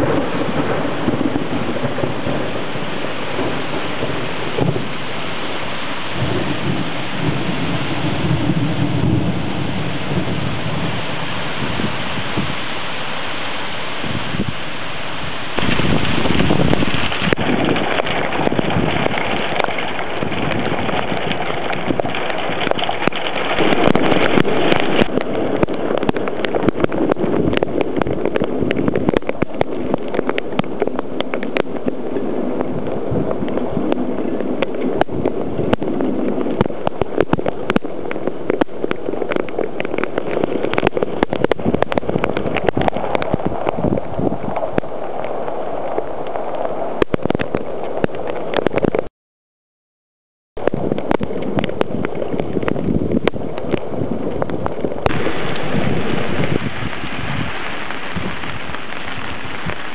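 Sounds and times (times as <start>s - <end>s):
heavy rain: 0.0s - 49.1s, 50.6s - 59.9s
raindrops ticking on microphone: 0.0s - 49.1s, 50.6s - 59.9s
wind: 0.0s - 49.1s, 50.6s - 59.9s.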